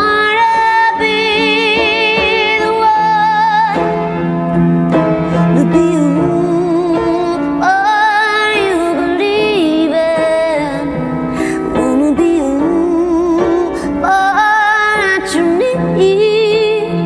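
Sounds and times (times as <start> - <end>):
woman singing with vibrato: 0.0 - 4.0, 5.4 - 17.0
piano accompaniment: 0.0 - 17.0.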